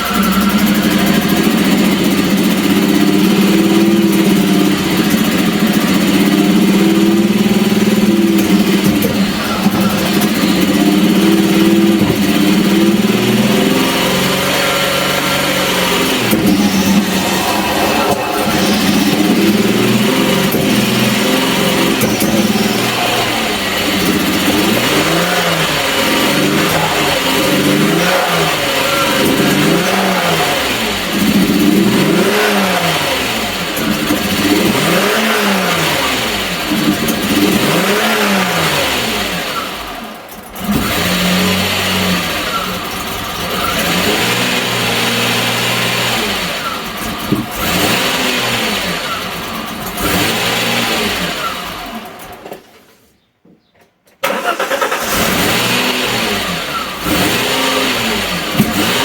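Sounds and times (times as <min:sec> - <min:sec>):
car engine revving: 0:00.0 - 0:52.4, 0:54.2 - 0:59.0.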